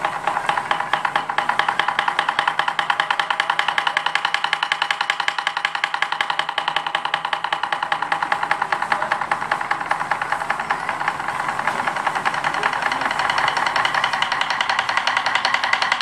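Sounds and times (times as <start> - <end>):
taiko drums struck fast: 0.0 - 16.0.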